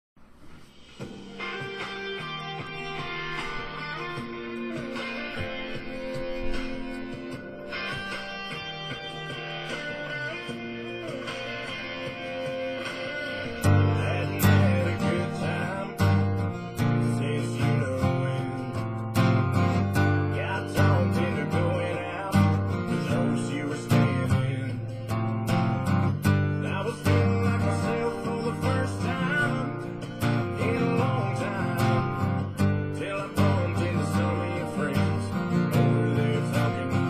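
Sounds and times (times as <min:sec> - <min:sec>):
strummed acoustic guitar: 0:00.4 - 0:37.0
bass line: 0:01.0 - 0:37.0.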